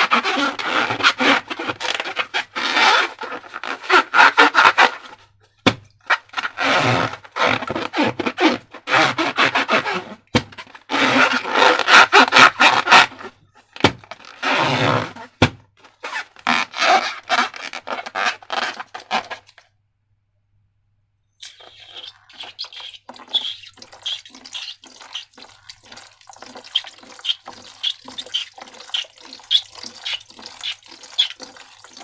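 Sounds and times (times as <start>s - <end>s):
crackly rubbing and scraping of slime: 0.0s - 5.3s, 6.1s - 19.6s, 21.4s - 32.0s.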